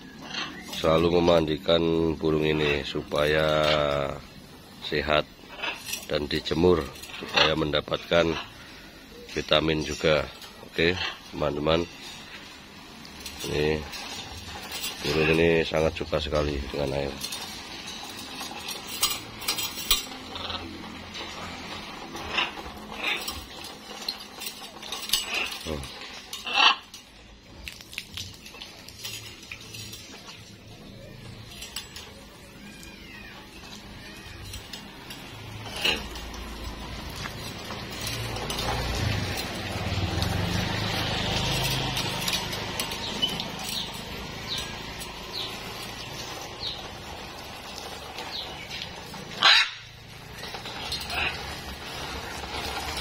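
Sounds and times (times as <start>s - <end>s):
light metallic clinks: 0.0s - 53.0s.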